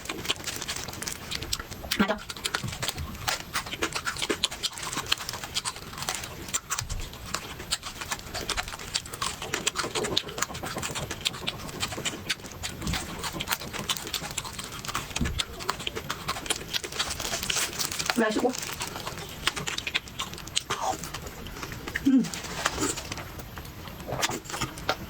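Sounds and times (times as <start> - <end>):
person chewing and crunching food: 0.0 - 25.0.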